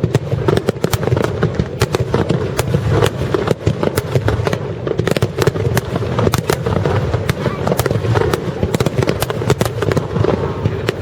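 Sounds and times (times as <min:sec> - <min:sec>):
fireworks cracking: 0:00.0 - 0:11.0
low rumble of explosions: 0:00.0 - 0:11.0.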